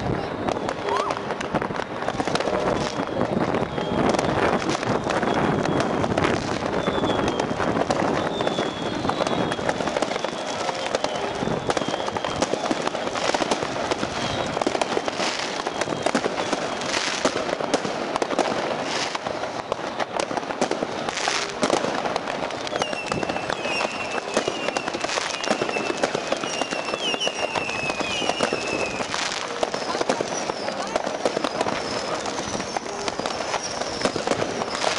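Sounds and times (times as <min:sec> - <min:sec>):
firework whistles: 0:00.0 - 0:34.9
fireworks and firecrackers crackling: 0:00.0 - 0:34.9.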